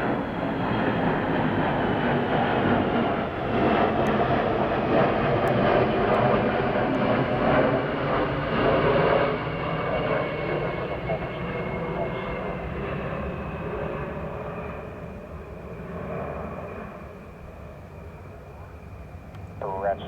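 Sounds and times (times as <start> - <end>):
jet aircraft passing overhead: 0.0 - 20.0.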